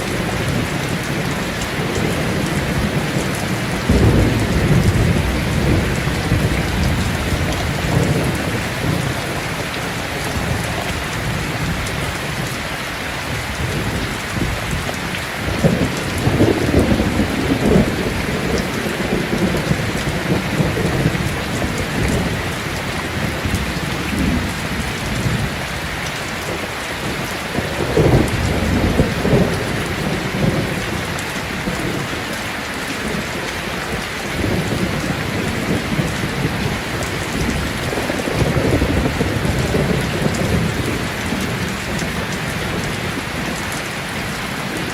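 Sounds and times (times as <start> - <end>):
thunder rumbling: 0.0 - 12.6, 13.3 - 44.9
steady rain falling: 0.0 - 44.9.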